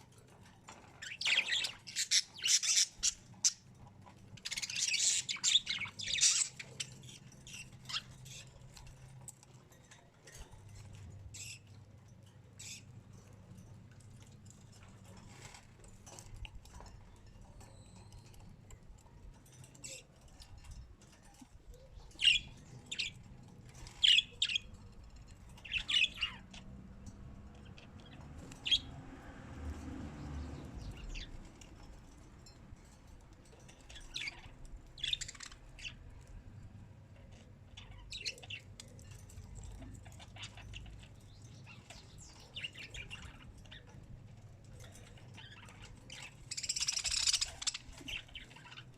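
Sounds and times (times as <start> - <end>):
birds chirping: 0.2 - 29.0, 29.7 - 48.9.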